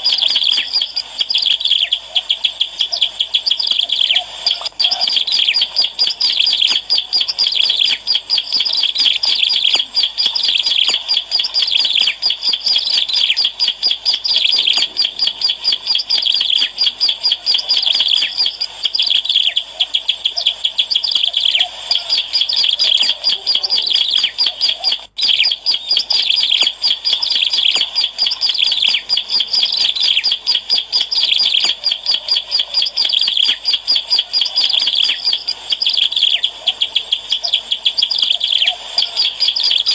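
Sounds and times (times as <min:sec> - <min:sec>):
bird singing high chirps: 0:00.0 - 0:19.6, 0:20.4 - 0:39.9.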